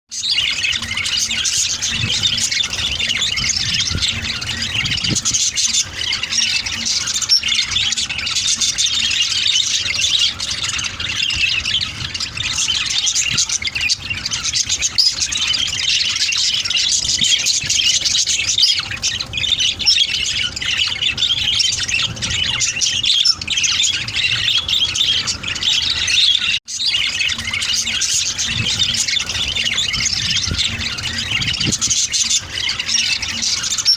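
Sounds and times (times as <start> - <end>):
parrots chattering and squawking: 0.1 - 33.9.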